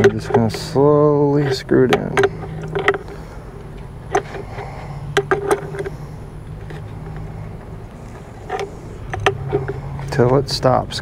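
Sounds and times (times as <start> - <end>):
plastic fitting clicking and creaking: 0.0 - 11.0
steady low hum: 0.0 - 11.0.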